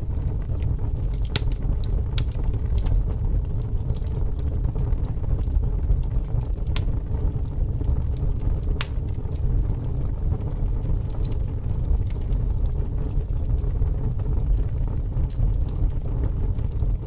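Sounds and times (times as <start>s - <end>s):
fire crackling: 0.0s - 17.0s
sharp pops from fire: 0.1s - 16.8s.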